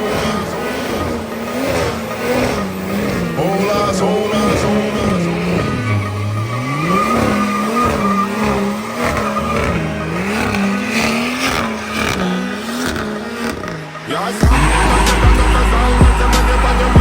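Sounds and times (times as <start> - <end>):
car engine revving high: 0.0 - 17.0
tyres spinning and squealing: 0.0 - 17.0.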